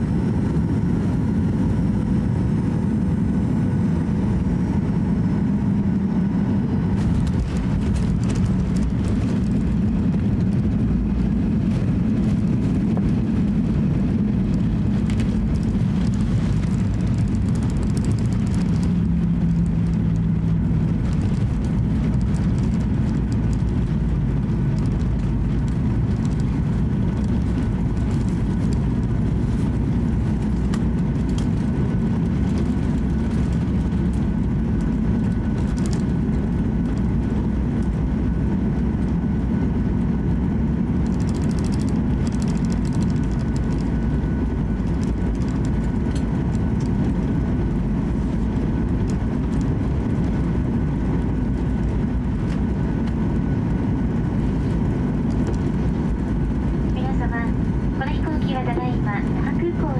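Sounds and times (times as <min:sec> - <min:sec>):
faint steady whine: 0:00.0 - 0:59.9
low rumble of engines and wheels: 0:00.0 - 0:59.9.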